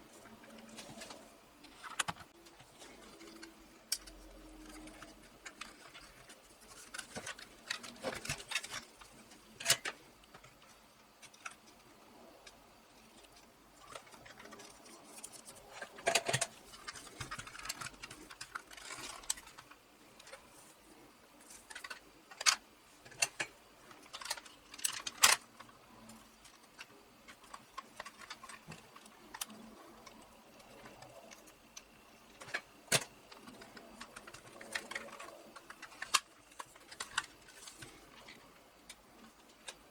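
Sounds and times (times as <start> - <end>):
small parts clicking and rattling: 0.1 - 39.9.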